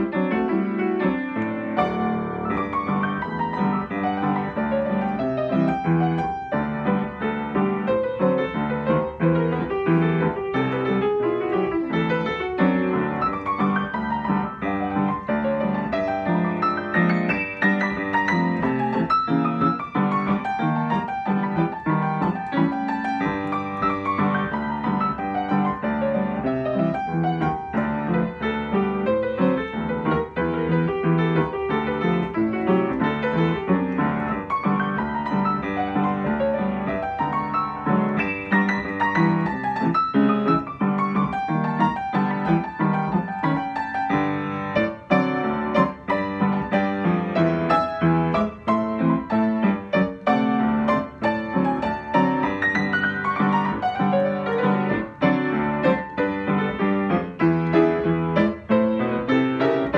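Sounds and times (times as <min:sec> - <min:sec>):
ragtime piano: 0:00.0 - 0:59.9.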